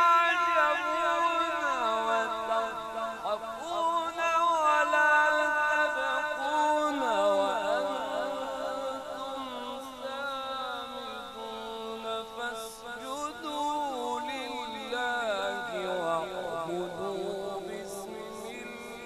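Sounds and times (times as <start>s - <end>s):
man chanting through a microphone: 0.0s - 19.0s.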